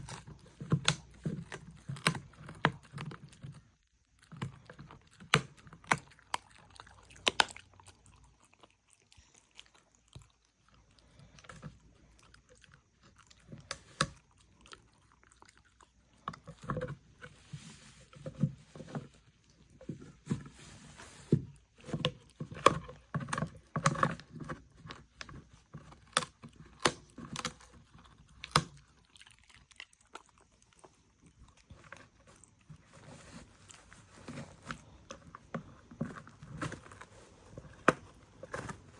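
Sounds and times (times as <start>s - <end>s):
dog chewing crunchy food: 0.0s - 38.9s.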